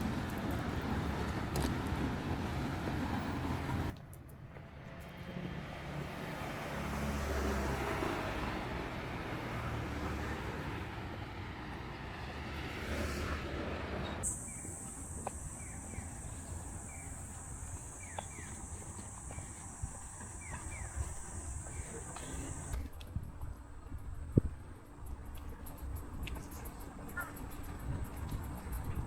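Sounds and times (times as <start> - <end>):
road vehicle passing: 0.0 - 29.0.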